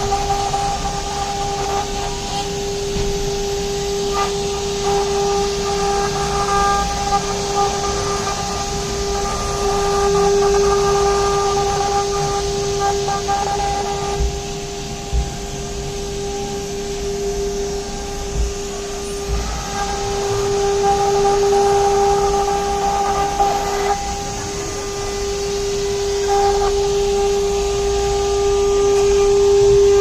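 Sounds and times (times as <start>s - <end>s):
spindle motor whining: 0.0s - 30.0s.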